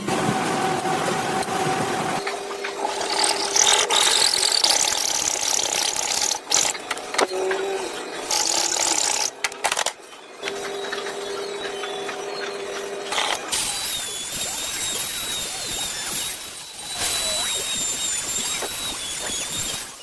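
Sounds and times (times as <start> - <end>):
power tool motor whine: 1.0 - 20.0.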